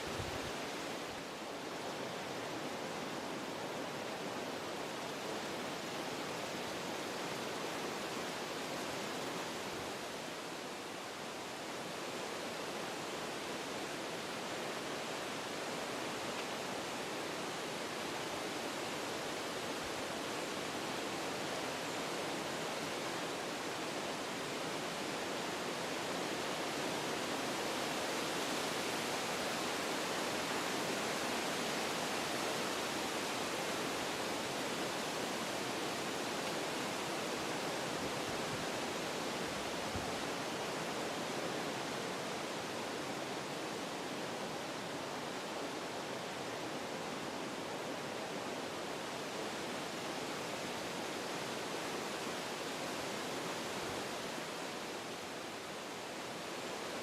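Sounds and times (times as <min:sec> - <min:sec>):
wind blowing through trees: 0:00.0 - 0:57.0.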